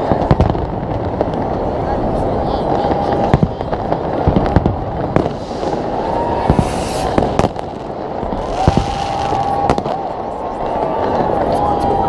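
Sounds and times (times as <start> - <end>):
fireworks hissing bursts: 0.0 - 11.5
fireworks banging: 0.0 - 12.0.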